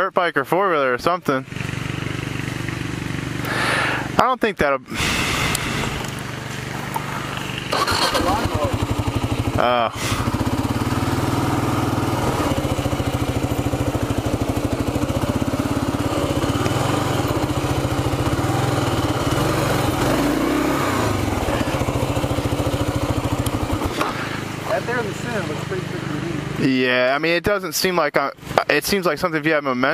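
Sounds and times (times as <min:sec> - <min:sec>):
motorcycle engine running slowly: 0:01.4 - 0:04.1, 0:05.0 - 0:27.4.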